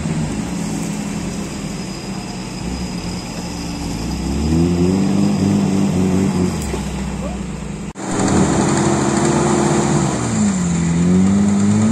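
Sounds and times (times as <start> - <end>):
off-road engines revving under load: 0.0 - 11.9.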